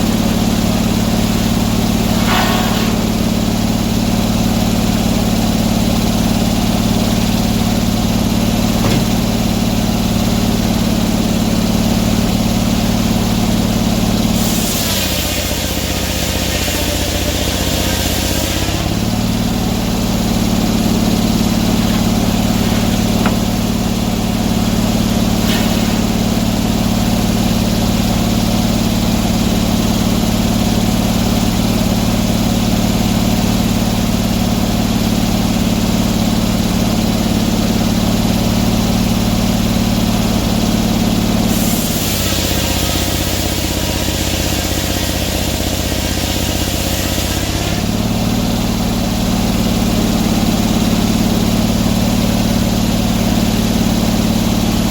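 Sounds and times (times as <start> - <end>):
sawmill engine running: 0.0 - 54.9.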